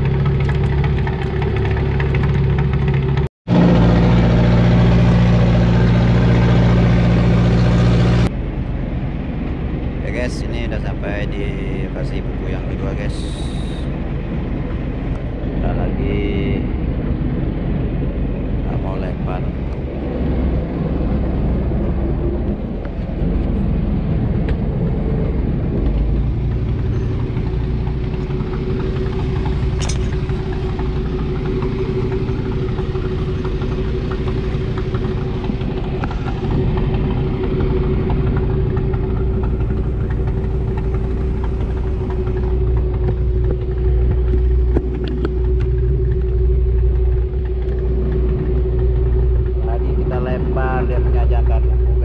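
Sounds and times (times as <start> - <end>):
boat engine rumble: 0.0 - 52.0
steady hum: 3.5 - 52.0.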